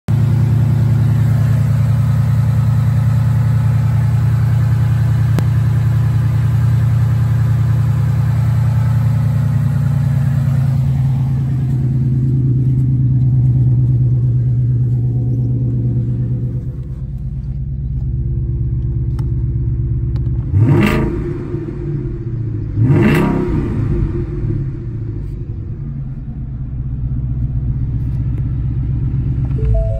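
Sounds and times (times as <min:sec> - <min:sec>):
car engine idling and revving: 0:00.1 - 0:29.9.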